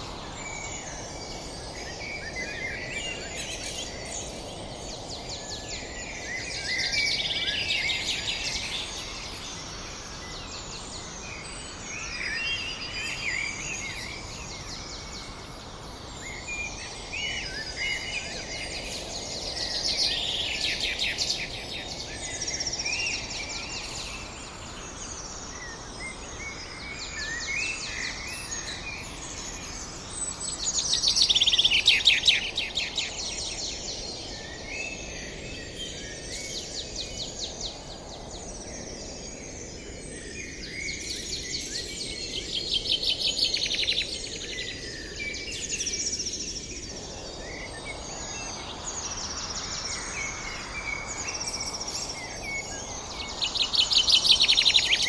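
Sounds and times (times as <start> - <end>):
birds chirping and trilling: 0.0 - 55.0
steady background hiss: 0.0 - 55.0.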